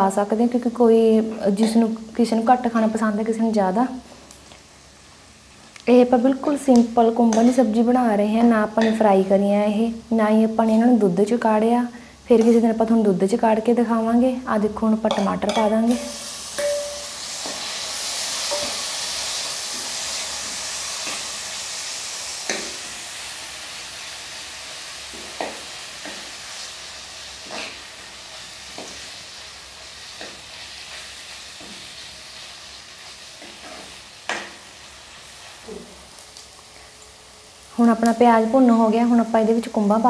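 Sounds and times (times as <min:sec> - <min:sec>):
onions and tomatoes sizzling: 0:00.0 - 0:40.0.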